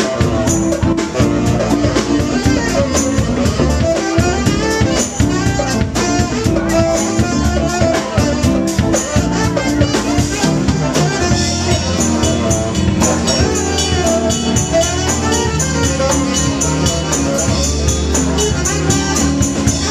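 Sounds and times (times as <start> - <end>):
drum kit steady beat: 0.0 - 19.9
live band playing: 0.0 - 19.9.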